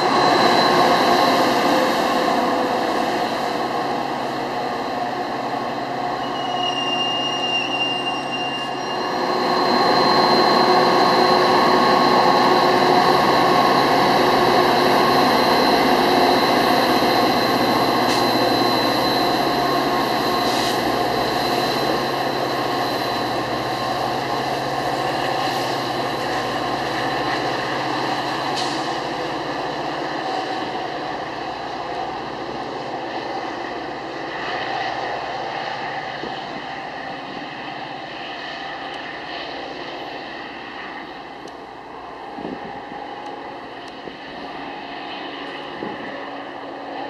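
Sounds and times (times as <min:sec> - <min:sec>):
diesel locomotive engine drone: 0:00.0 - 0:47.0
train cars rumbling: 0:00.0 - 0:47.0.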